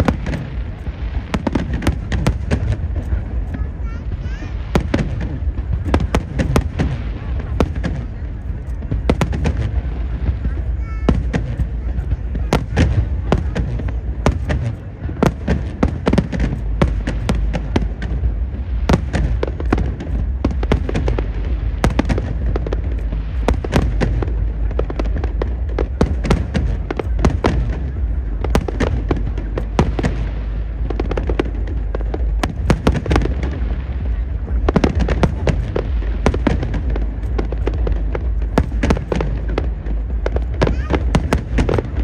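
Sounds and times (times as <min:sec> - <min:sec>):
crowd voices: 0:00.0 - 0:42.0
fireworks exploding: 0:00.0 - 0:42.0
low rumble: 0:00.0 - 0:42.0.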